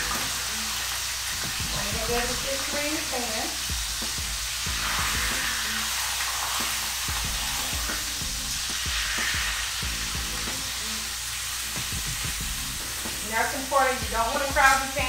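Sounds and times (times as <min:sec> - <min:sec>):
chicken sizzling in skillet: 0:00.0 - 0:15.0.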